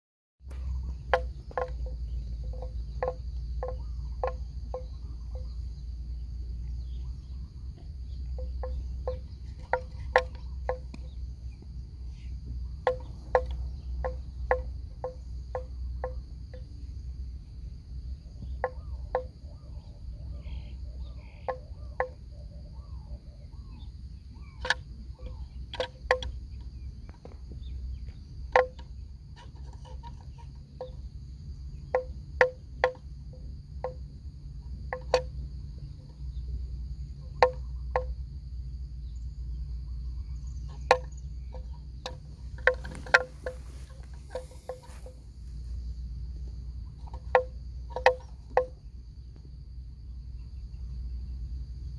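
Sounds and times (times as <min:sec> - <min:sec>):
high insect drone: 0:00.4 - 0:51.9
low wind rumble: 0:00.4 - 0:51.9.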